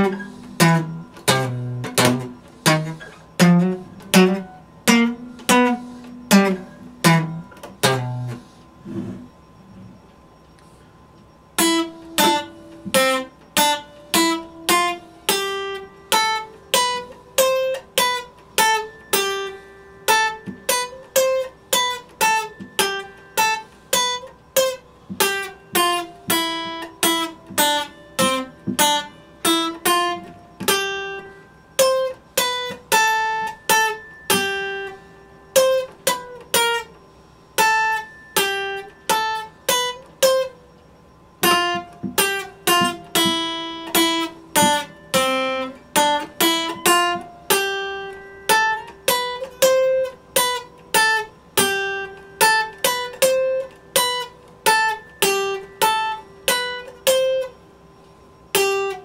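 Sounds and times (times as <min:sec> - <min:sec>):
acoustic guitar melody: 0:00.0 - 0:59.0.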